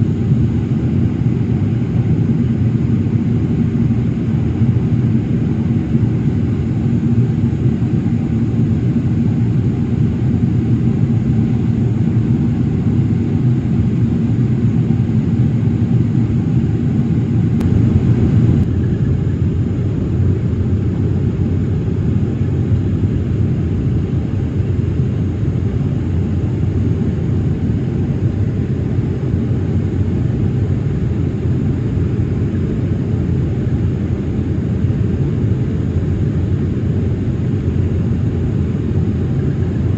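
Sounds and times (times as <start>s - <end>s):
airliner engine drone: 0.0s - 39.9s.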